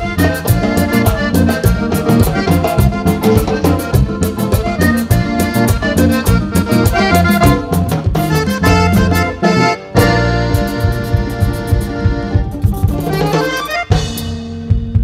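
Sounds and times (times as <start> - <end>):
button accordion: 0.0 - 14.7
electric guitar: 0.0 - 15.0
low bass notes: 0.0 - 15.0
quick percussion beat: 0.0 - 15.0.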